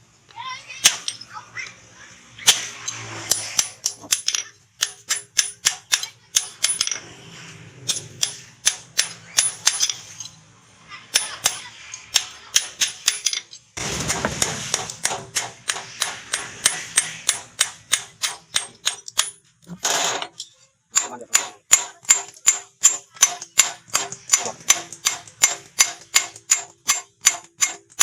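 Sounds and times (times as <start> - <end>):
hammer striking metal on anvil: 2.4 - 7.0, 7.9 - 10.1, 11.1 - 20.3, 20.9 - 28.0.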